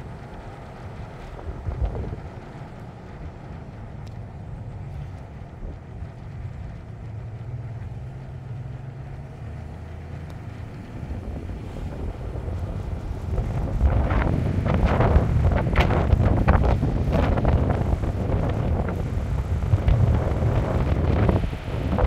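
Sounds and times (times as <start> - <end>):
car driving heard from inside: 0.0 - 22.0
wind buffeting microphone: 0.0 - 22.0.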